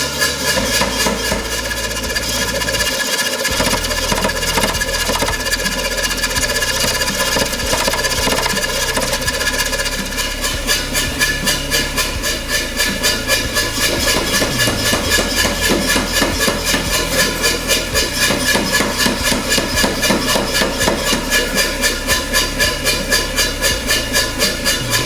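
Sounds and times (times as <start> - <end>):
forging hammer striking: 0.0 - 25.0
low motor hum: 0.0 - 25.0.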